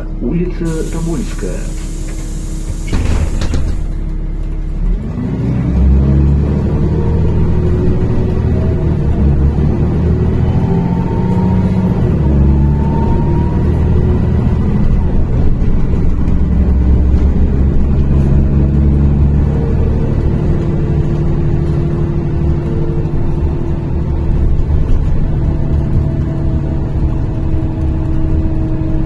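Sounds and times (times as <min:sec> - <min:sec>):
bus engine running: 0:00.0 - 0:29.0.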